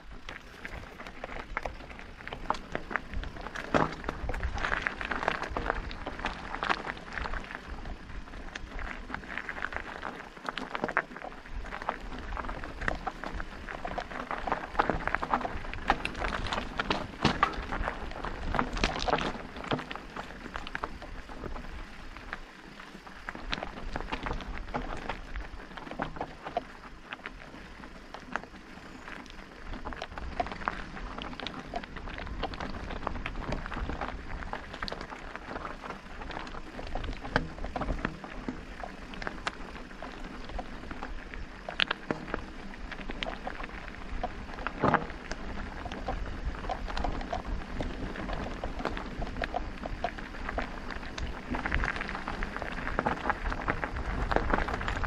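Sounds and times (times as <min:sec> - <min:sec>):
bike rattling and knocking: 0:00.0 - 0:55.0
tyres crunching on gravel: 0:00.0 - 0:55.0.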